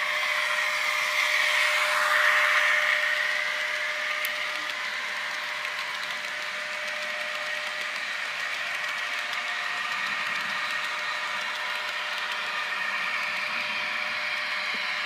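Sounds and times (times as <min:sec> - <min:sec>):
faint constant whine: 0:00.0 - 0:15.0
model train wheels whirring: 0:00.0 - 0:15.0.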